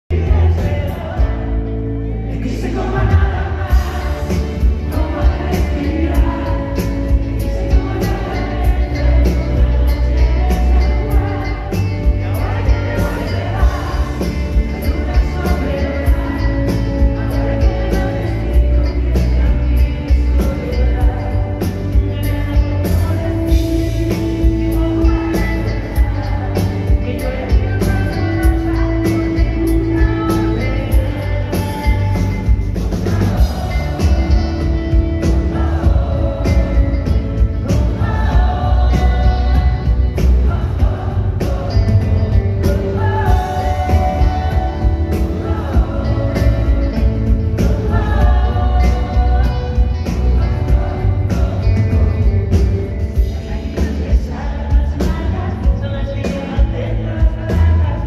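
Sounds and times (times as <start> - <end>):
live pop rock band: 0.1 - 58.0
woman singing lead: 0.1 - 58.0.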